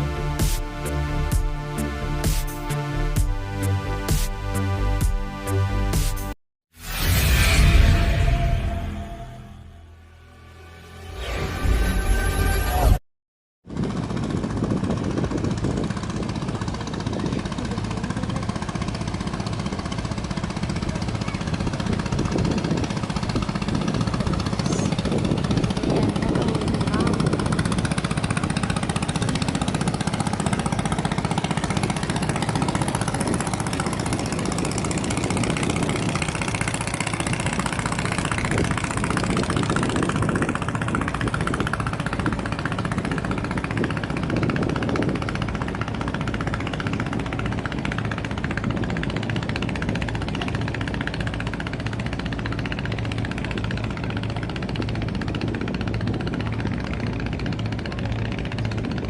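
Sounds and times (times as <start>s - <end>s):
boat engine droning: 0.0s - 5.8s, 7.2s - 13.0s, 13.7s - 59.0s.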